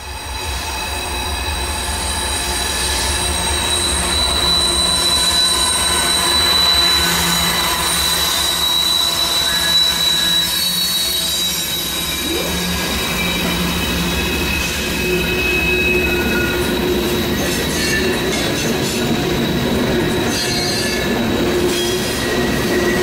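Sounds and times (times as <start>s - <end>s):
diesel locomotives rumbling: 0.0s - 23.0s
high-pitched squeal: 0.0s - 23.0s.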